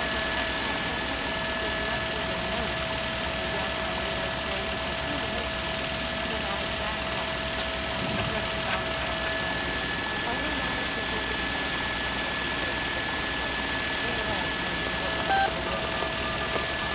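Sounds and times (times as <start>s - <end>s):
helicopter engine and rotor noise: 0.0s - 16.9s.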